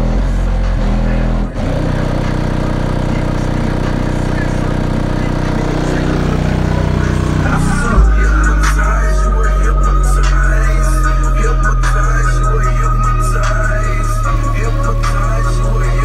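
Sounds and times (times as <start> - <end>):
hip-hop bass from subwoofer: 0.0 - 16.0.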